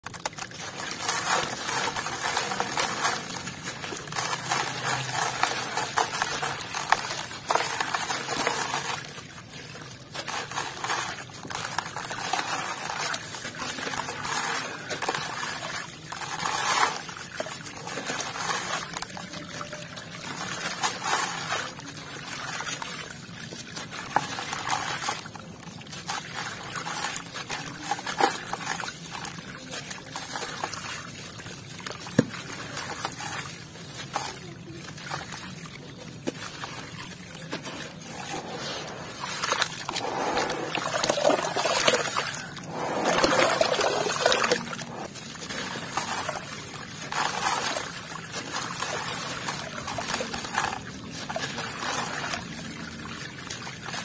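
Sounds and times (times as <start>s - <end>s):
crumbling chunk crunching: 0.0s - 50.9s
grit splashing into water: 0.0s - 54.0s.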